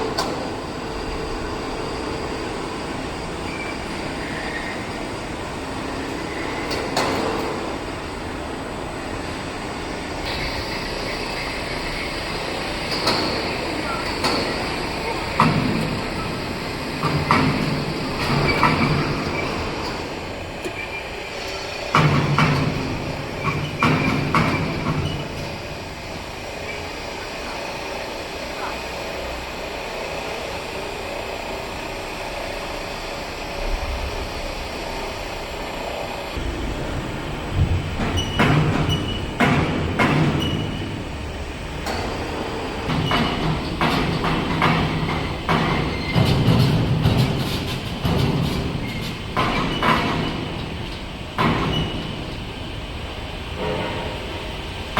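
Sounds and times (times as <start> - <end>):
heavy machinery rumbling: 0.0 - 54.9
rolling grinding noise: 0.0 - 54.9.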